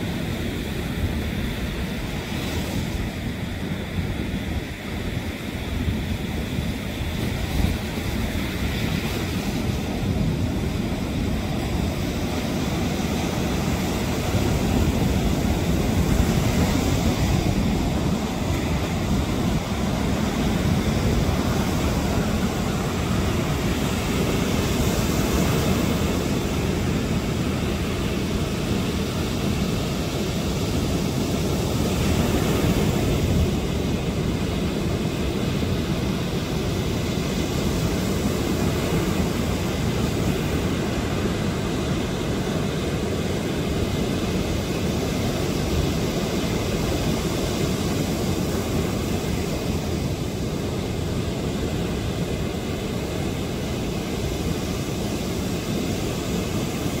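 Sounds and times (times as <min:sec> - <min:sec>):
sea waves breaking on beach: 0:00.0 - 0:57.0.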